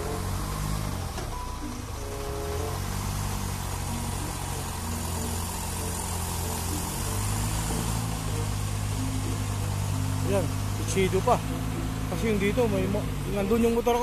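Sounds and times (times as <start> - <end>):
truck engine running low hum: 0.0 - 14.0.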